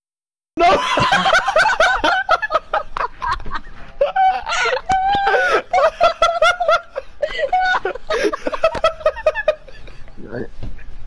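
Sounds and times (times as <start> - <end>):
young men laughing hard: 0.6 - 10.2.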